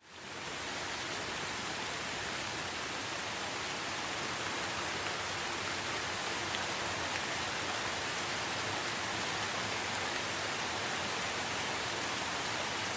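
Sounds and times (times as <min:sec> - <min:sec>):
steady rainfall: 0:00.0 - 0:12.9.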